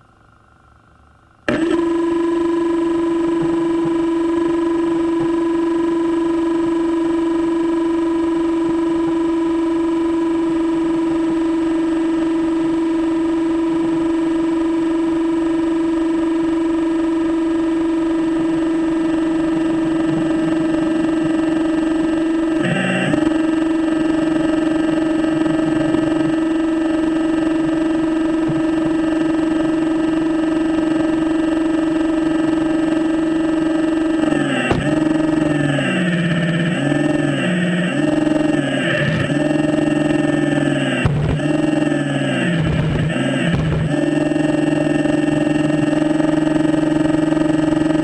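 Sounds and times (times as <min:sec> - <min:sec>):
mechanical pump motor whine: 0:00.0 - 0:48.0.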